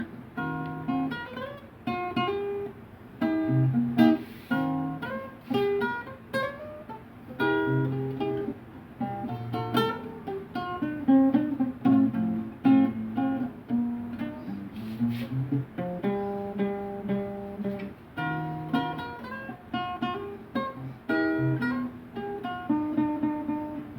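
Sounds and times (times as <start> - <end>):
acoustic guitar chords: 0.0 - 23.9.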